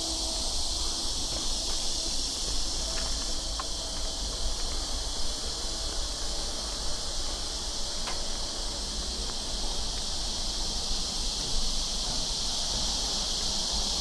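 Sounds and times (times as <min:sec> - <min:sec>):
cicada chorus: 0:00.0 - 0:14.0.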